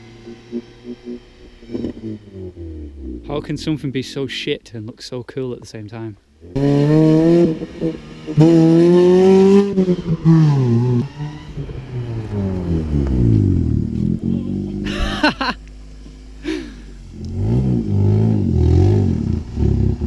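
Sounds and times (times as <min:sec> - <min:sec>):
small car engine revving: 0:00.0 - 0:03.8, 0:06.4 - 0:20.0.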